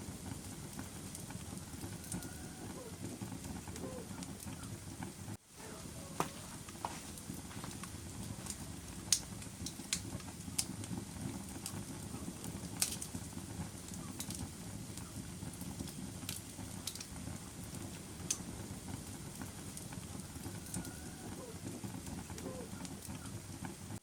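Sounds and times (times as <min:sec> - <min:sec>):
fire crackles and pops: 0:00.0 - 0:24.0
fire rushing in fireplace: 0:00.0 - 0:24.0.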